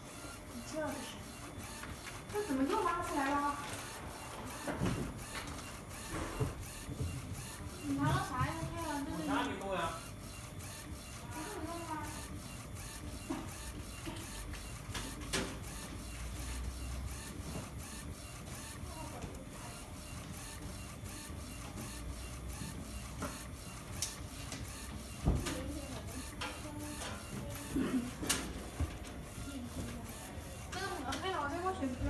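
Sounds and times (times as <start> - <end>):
regular mechanical tick: 0.1 - 32.0.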